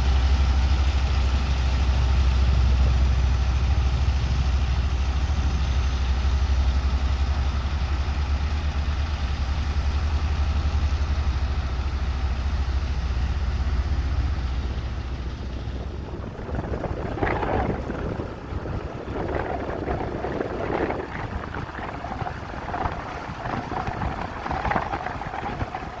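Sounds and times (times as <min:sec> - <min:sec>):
diesel engine deep rumble: 0:00.0 - 0:26.0.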